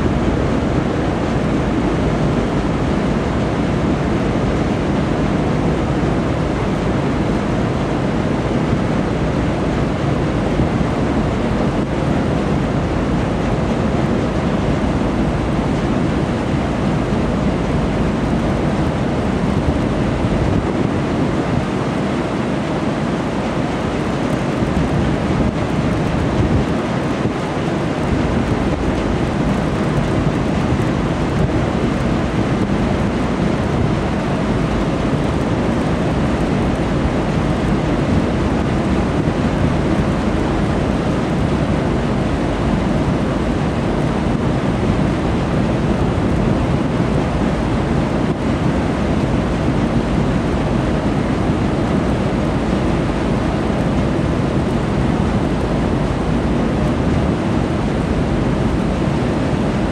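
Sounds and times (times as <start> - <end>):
water washing along hulls: 0.0 - 59.9
wind buffeting microphone: 0.0 - 59.9.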